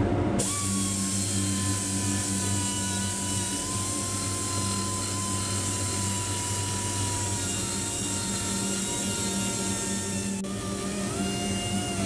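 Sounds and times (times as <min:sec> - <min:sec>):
die grinder whining: 0:00.4 - 0:12.0.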